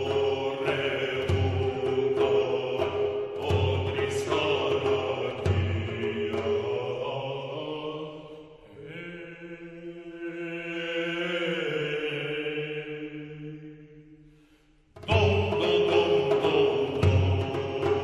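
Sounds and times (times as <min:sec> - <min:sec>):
slow chant-like background music: 0:00.0 - 0:18.0.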